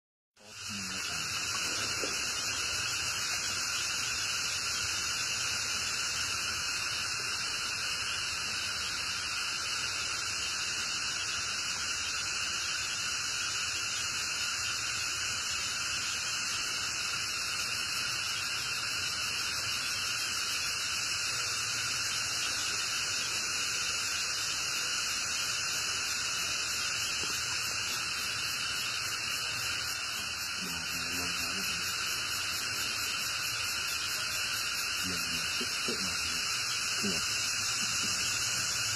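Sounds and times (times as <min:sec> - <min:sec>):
steady hiss: 0:00.4 - 0:38.9.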